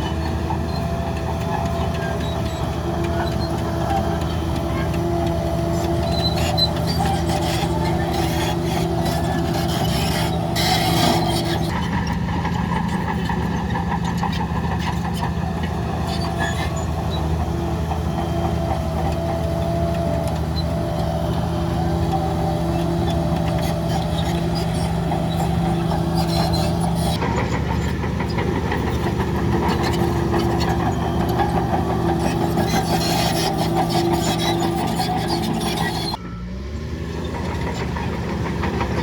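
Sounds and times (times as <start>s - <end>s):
heavy diesel engine running: 0.0s - 39.0s
rattling and clanking: 1.2s - 36.2s.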